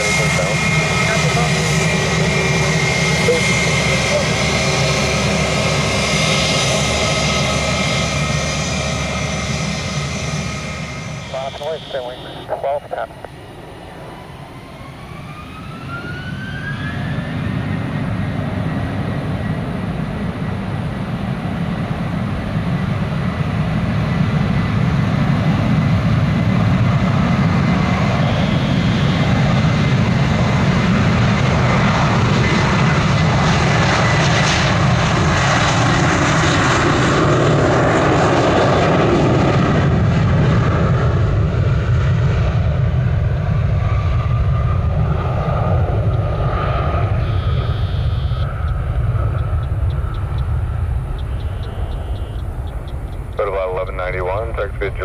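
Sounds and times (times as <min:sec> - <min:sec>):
jet engines spooling up: 0:00.0 - 0:55.0.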